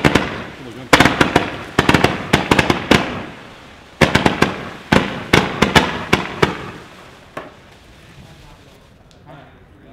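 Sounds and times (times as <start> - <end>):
roman candle firework shots: 0.0 - 9.3.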